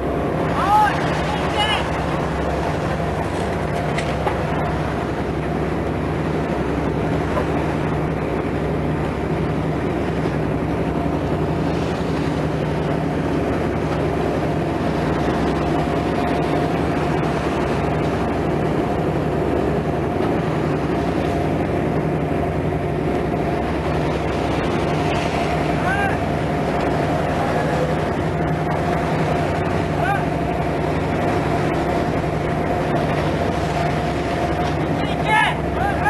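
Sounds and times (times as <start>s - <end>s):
boat engines droning: 0.0s - 36.0s
sea wash: 0.0s - 36.0s
wind: 0.0s - 36.0s.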